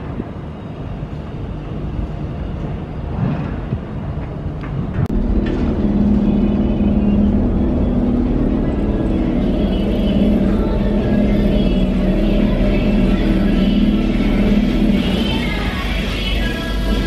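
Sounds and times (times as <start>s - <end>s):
steady low hum: 0.0s - 17.0s
passing vehicle rumble: 3.1s - 17.0s.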